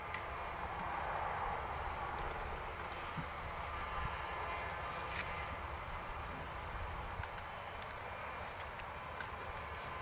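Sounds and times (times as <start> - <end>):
outdoor background rumble and hiss: 0.0 - 10.0.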